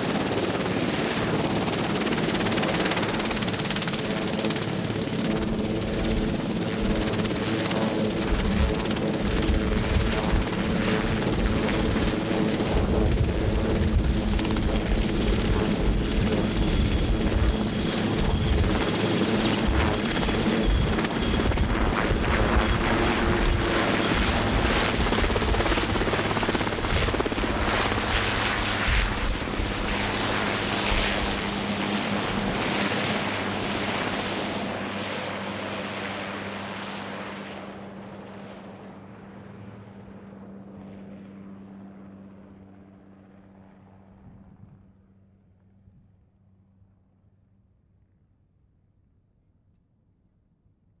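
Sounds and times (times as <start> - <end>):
helicopter rotors and turbines: 0.0 - 48.6.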